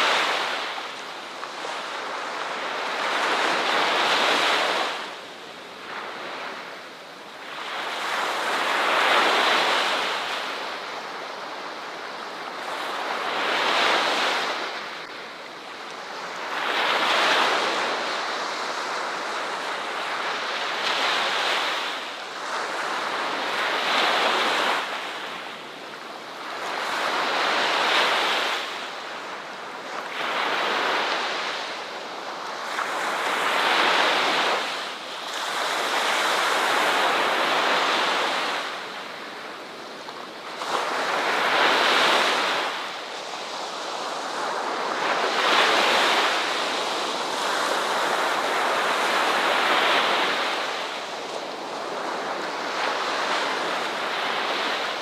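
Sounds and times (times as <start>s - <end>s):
ocean waves washing onto beach: 0.0s - 55.0s.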